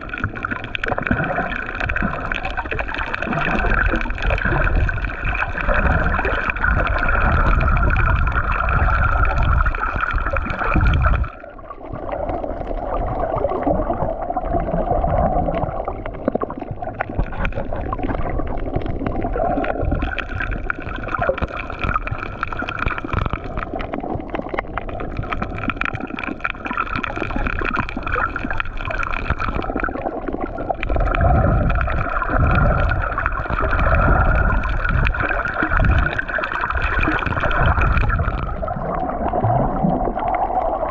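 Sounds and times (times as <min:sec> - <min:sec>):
low underwater rumble: 0:00.0 - 0:40.9
underwater water sloshing: 0:00.0 - 0:40.9.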